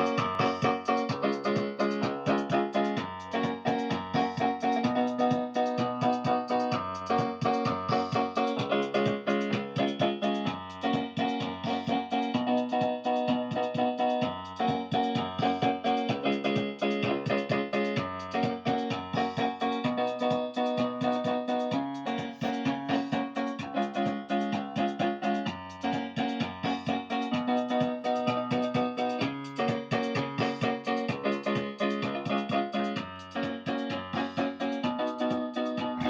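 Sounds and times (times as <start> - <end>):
keyboard bass line: 0.0 - 34.5
electric piano chords: 0.0 - 36.0.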